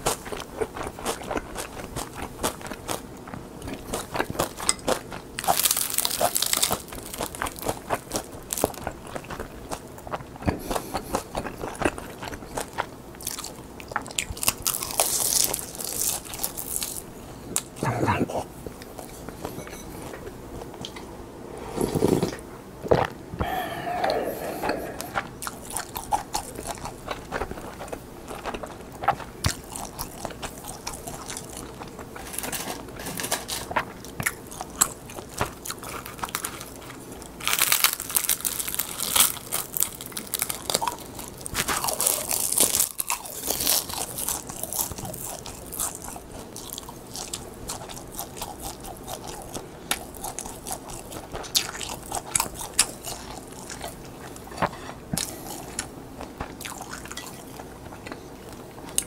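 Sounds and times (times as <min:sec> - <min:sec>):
crisp seaweed sheets being chewed: 0:00.0 - 0:17.9, 0:23.4 - 0:59.0.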